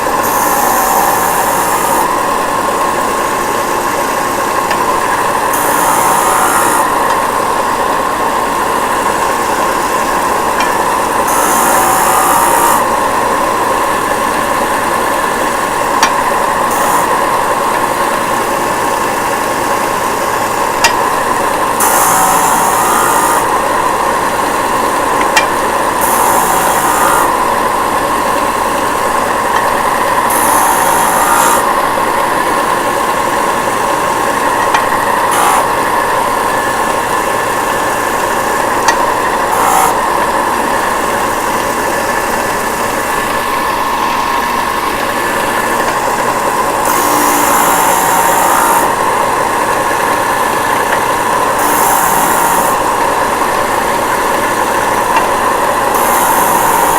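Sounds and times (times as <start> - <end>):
disc sander humming: 0.0 - 56.9.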